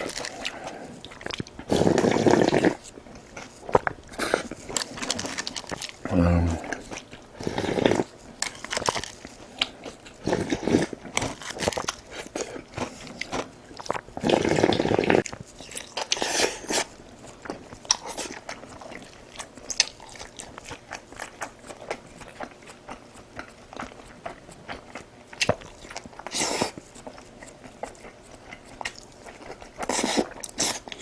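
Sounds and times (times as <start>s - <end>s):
person chewing crunchy food: 0.0s - 31.0s.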